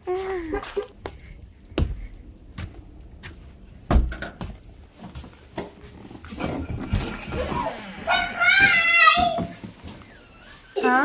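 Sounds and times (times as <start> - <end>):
knocks and thumps: 1.0 - 10.0.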